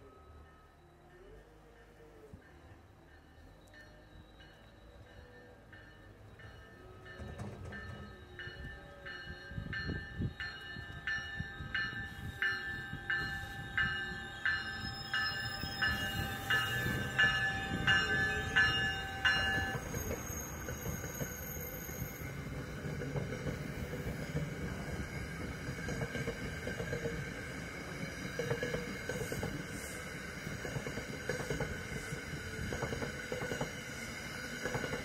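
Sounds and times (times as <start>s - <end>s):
low rumble of train: 0.0s - 35.0s
train warning bell ringing: 0.0s - 35.0s.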